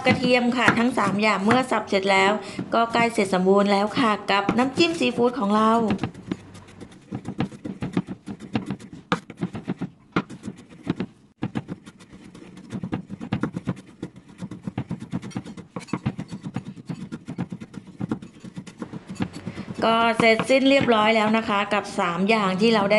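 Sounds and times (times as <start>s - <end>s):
knife chopping on wooden board: 0.0s - 3.3s, 4.4s - 21.3s.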